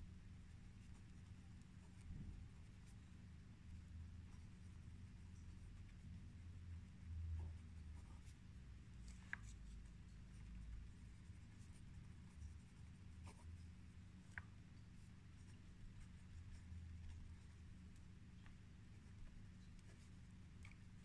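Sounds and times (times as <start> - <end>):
pen scratching on paper: 0.7 - 4.5, 7.4 - 21.0.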